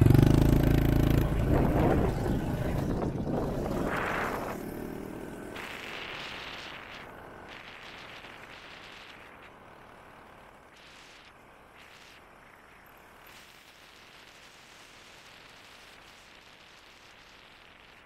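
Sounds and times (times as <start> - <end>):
dirt bike engine running: 0.0 - 15.5
wind and road noise: 0.0 - 18.0.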